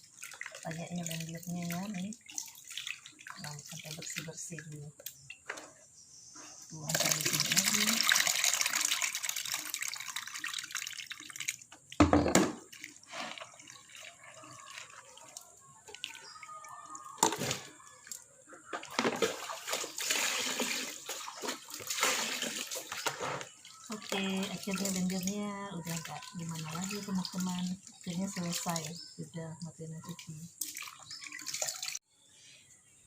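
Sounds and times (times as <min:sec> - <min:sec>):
water pouring and splashing: 0:00.0 - 0:05.8, 0:06.6 - 0:32.0.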